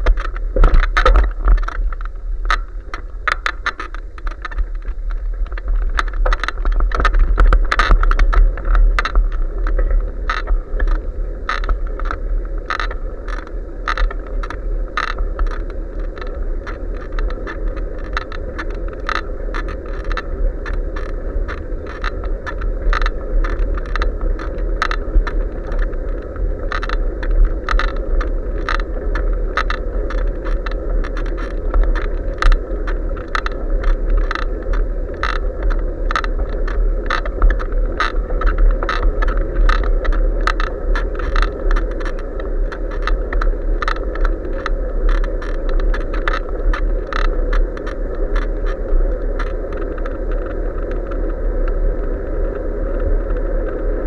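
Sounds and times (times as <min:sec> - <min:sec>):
bike rattling clicks: 0:00.0 - 0:51.1
wind rumble on microphone: 0:00.0 - 0:54.0.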